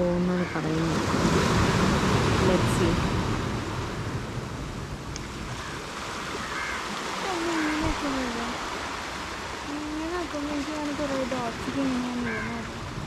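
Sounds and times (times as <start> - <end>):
sea surf washing on beach: 0.0 - 13.0.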